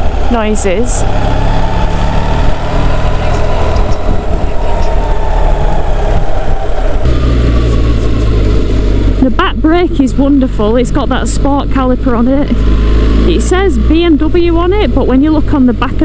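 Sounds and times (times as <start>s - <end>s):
motorcycle engine running: 0.0s - 16.0s
tyres on wet road: 0.0s - 16.0s
wind noise: 0.0s - 16.0s.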